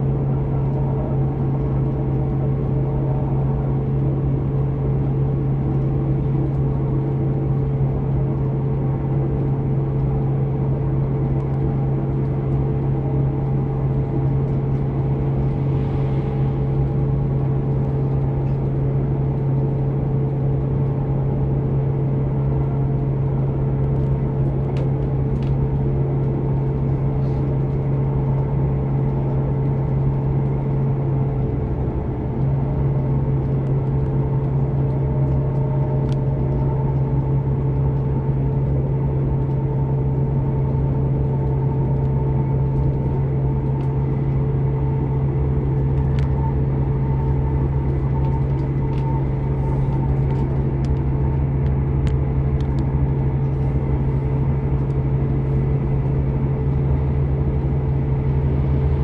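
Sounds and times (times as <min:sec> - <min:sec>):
diesel engine drone: 0:00.0 - 0:59.0
train wheels rumbling on rails: 0:00.0 - 0:59.0.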